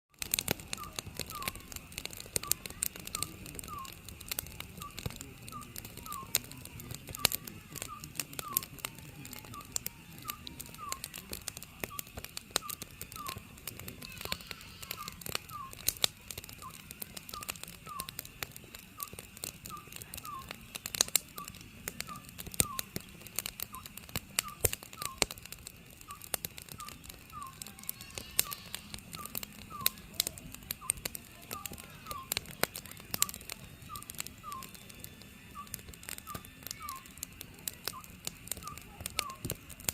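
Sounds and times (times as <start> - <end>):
wood fire crackling and popping: 0.1 - 39.9
owl whistled calls: 0.6 - 8.8, 9.4 - 11.2, 11.8 - 18.3, 19.0 - 20.6, 21.3 - 23.1, 23.7 - 25.2, 26.1 - 32.5, 33.2 - 34.9, 35.5 - 37.2, 37.9 - 39.5.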